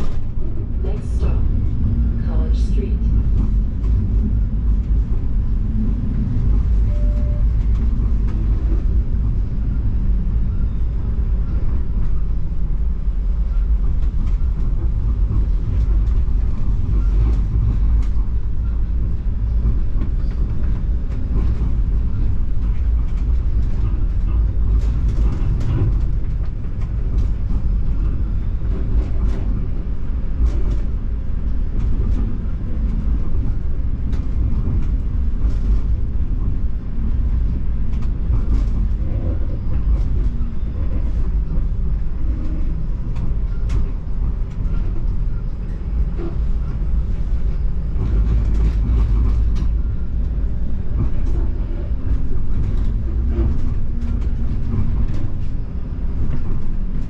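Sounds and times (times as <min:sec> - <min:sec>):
streetcar wheels rumbling on rails: 0:00.0 - 0:57.0.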